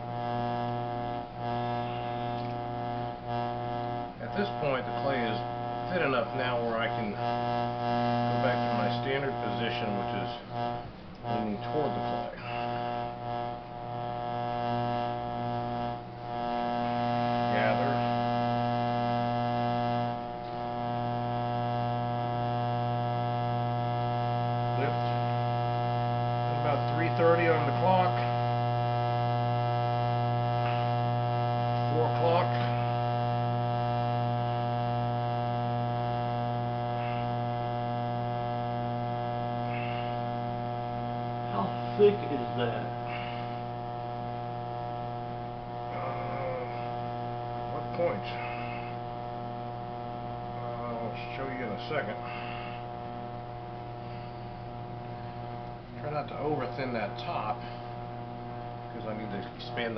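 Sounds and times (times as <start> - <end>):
potter's wheel motor humming: 0.0 - 59.9.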